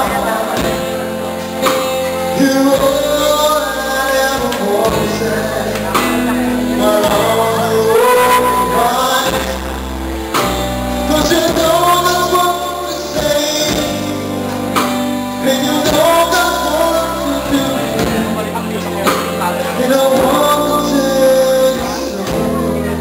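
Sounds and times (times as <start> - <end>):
drum kit: 0.0 - 23.0
live band playing: 0.0 - 23.0
person singing: 0.0 - 23.0.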